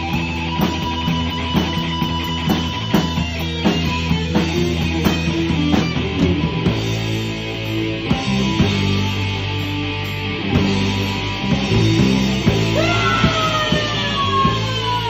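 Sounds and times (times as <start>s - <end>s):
bass guitar notes: 0.0s - 15.0s
live heavy metal band: 0.0s - 15.0s.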